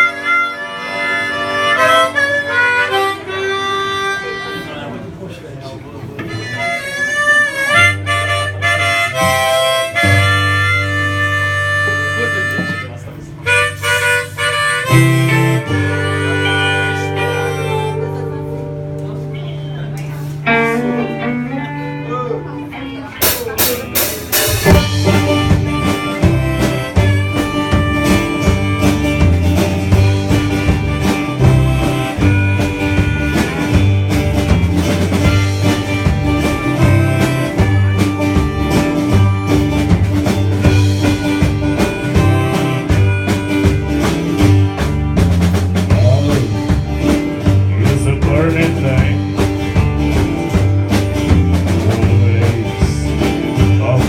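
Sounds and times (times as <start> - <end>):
harmonica lead: 0.0 - 5.1, 6.3 - 19.0, 20.2 - 54.0
live country band playing: 0.0 - 54.0.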